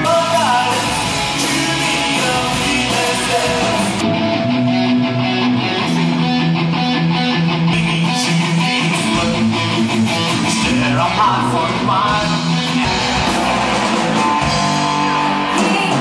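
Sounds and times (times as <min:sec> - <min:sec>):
bass line: 0:00.0 - 0:16.0
drums: 0:00.0 - 0:16.0
electric guitar: 0:00.0 - 0:16.0.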